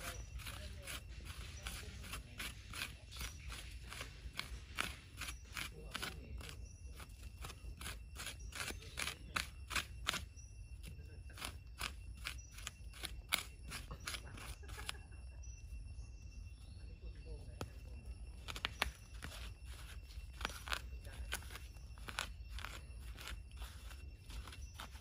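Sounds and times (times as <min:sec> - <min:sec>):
hands scratching sandy soil: 0:00.0 - 0:15.1, 0:18.4 - 0:25.0.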